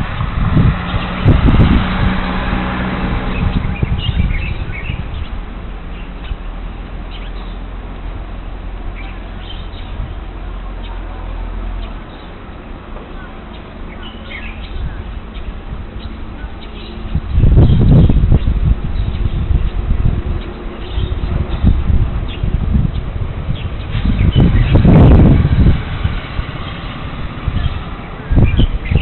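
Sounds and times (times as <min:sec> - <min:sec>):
small birds chirping: 0:00.0 - 0:01.9, 0:02.9 - 0:29.0.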